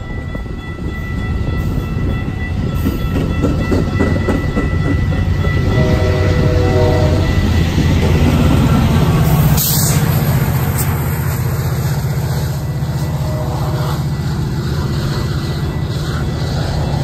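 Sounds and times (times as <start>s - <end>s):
train passing with low rumble: 0.0s - 17.0s.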